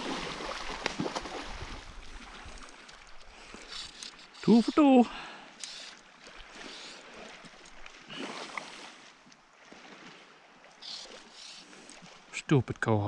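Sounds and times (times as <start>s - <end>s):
faint river water: 0.0s - 13.0s
soft water splashes: 0.0s - 13.0s.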